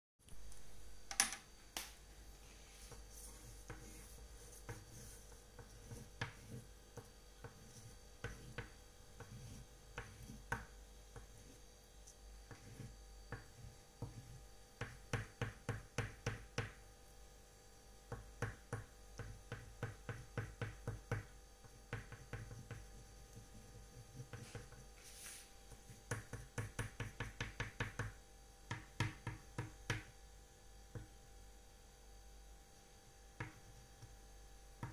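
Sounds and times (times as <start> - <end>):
faint steady hum: 0.2 - 34.9.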